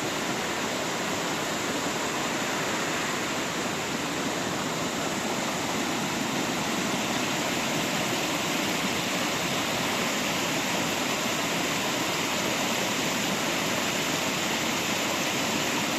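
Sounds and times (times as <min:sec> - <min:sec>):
rushing water: 0:00.0 - 0:15.9.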